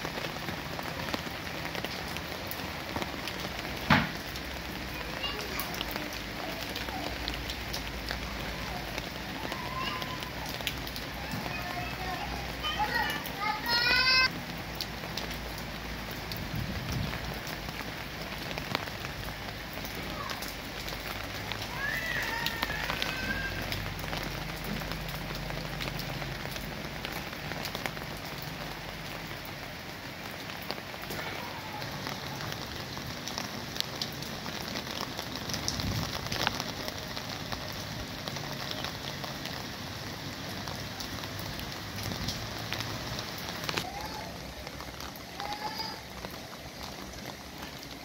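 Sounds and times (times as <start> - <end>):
rain falling on leaves: 0.0 - 48.0
raindrop ticks: 0.2 - 48.0.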